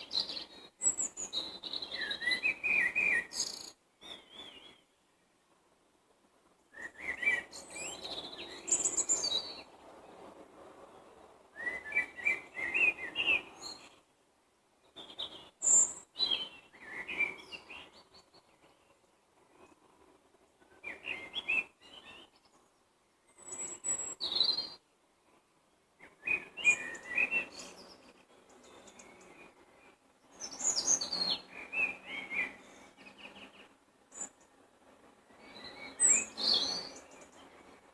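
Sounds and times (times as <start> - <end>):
songbirds singing: 0.0 - 5.6, 6.6 - 37.9.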